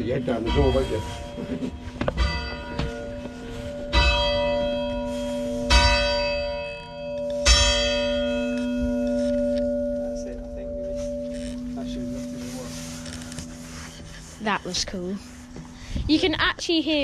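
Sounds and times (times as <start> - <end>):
church bell striking: 0.0 - 15.8
steady bell hum: 0.0 - 17.0.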